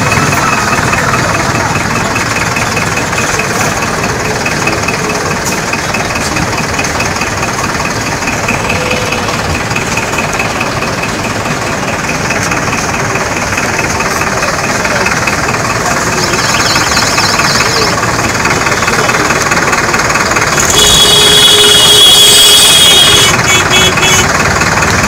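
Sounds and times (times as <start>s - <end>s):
engine running with rattle: 0.0s - 25.0s.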